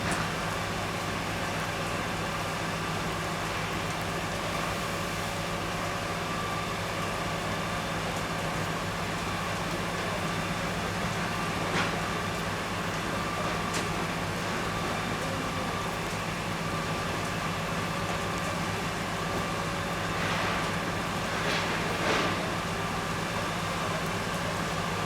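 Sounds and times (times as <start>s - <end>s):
machine drone with hiss: 0.0s - 25.0s.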